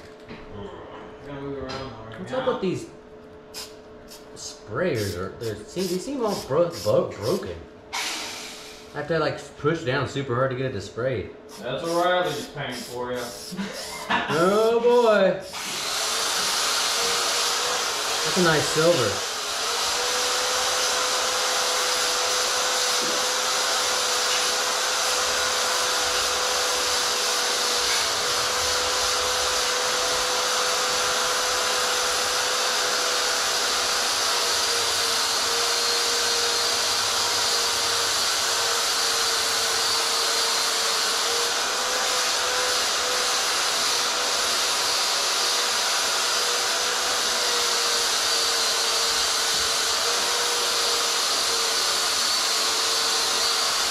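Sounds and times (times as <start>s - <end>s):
electric drill wire brush whine: 4.9s - 9.0s, 11.5s - 53.9s.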